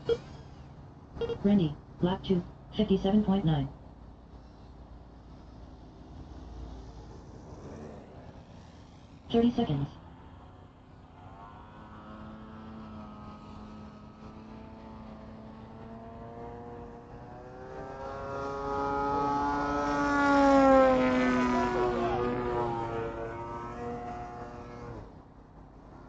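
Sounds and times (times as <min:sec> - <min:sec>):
racing drones whining past: 0:04.3 - 0:26.0.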